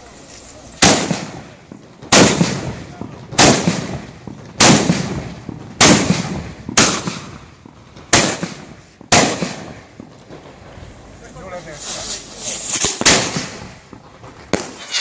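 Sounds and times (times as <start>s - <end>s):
loud blasts with echo: 0.0s - 15.0s.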